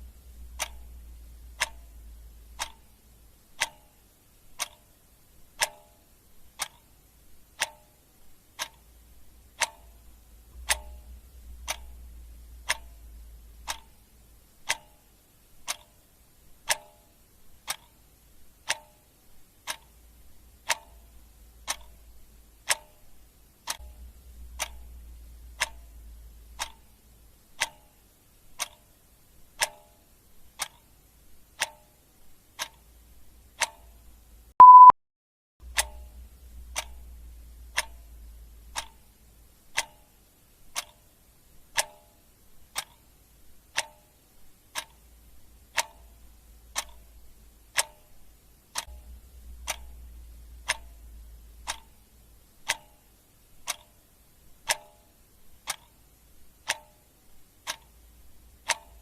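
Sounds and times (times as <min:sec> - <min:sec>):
clock ticking: 0:00.0 - 0:34.9, 0:35.6 - 0:59.0.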